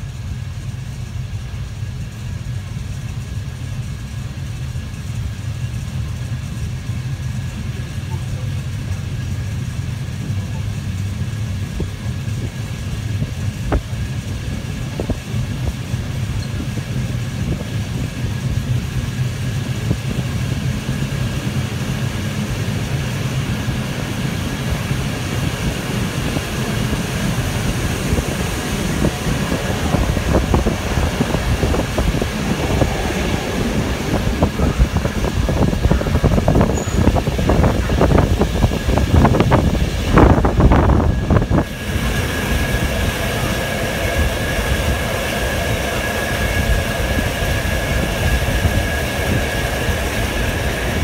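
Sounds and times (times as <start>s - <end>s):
train running rumble: 0.0s - 51.0s.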